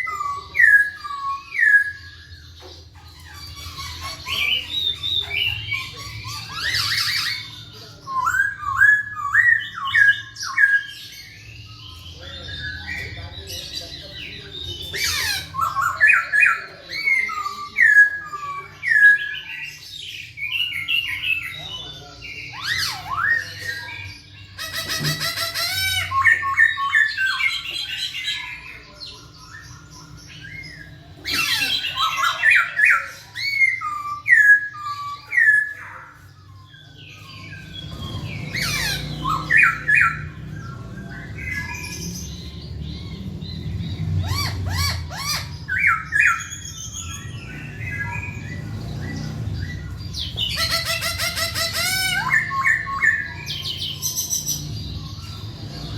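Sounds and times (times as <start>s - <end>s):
laughingthrush singing: 3.0s - 11.3s, 14.2s - 28.9s, 29.7s - 55.9s.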